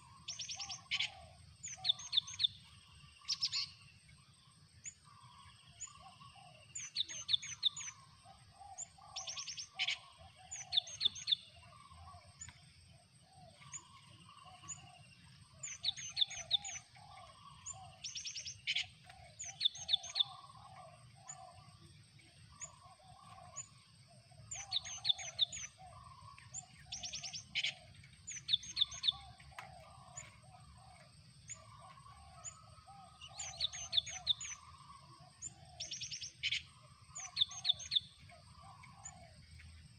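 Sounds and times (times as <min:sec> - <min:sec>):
lower chattering bird notes: 0:00.0 - 0:03.9, 0:04.8 - 0:12.7, 0:13.3 - 0:23.8, 0:24.4 - 0:39.9.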